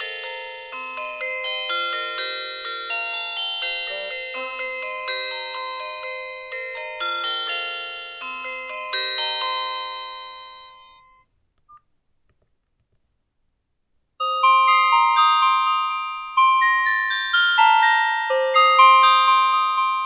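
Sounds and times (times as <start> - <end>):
phone ringtone melody: 0.0 - 11.2, 14.2 - 20.0.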